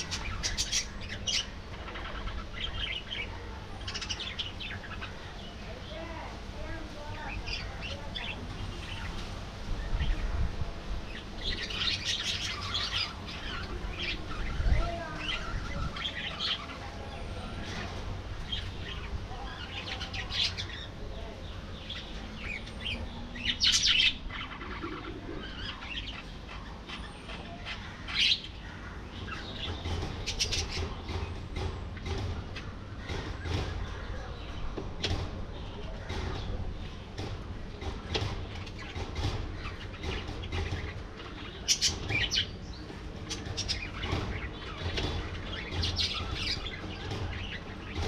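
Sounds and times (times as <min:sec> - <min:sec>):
budgerigars chirping and chattering: 0:00.0 - 0:48.0.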